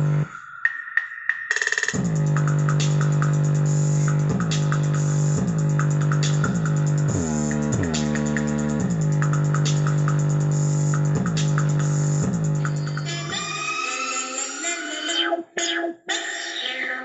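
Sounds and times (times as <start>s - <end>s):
electronic music with drum-machine beat: 0.0s - 15.9s.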